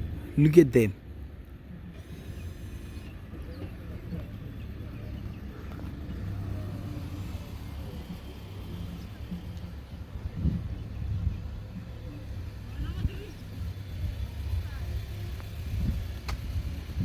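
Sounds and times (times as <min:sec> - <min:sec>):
car low rumble: 0:00.0 - 0:17.0.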